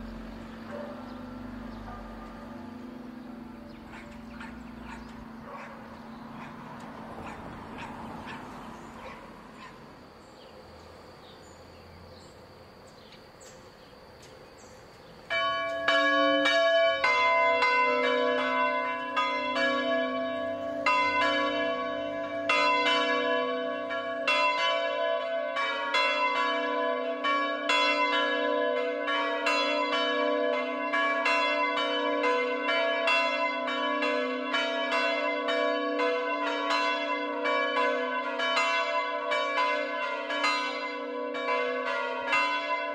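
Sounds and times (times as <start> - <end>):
church bells ringing: 0.0 - 11.3, 14.8 - 42.9.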